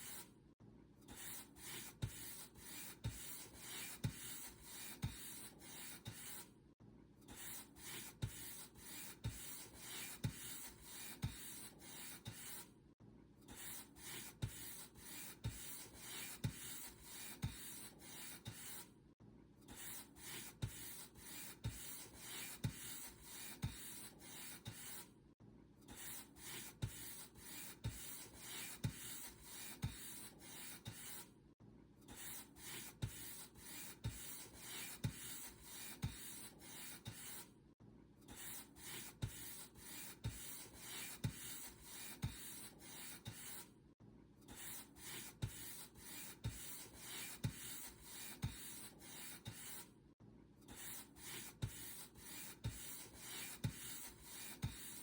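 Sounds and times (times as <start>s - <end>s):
paint brush stroking a surface: 1.2s - 6.5s, 7.4s - 12.7s, 13.6s - 18.9s, 19.8s - 25.0s, 26.0s - 31.3s, 32.2s - 37.5s, 38.4s - 43.7s, 44.6s - 49.9s, 50.8s - 55.0s.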